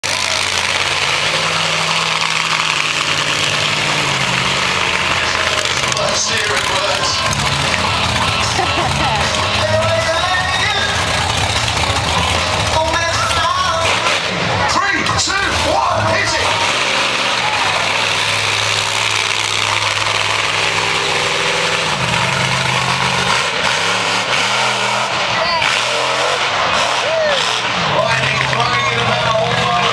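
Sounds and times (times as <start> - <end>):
monster truck engine running: 0.0 - 29.9.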